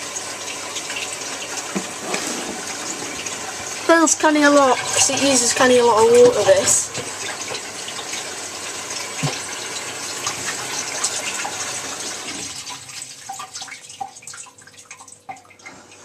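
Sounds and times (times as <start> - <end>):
water gushing into washing machine: 0.0 - 16.0
water trickling and dripping: 3.1 - 16.0.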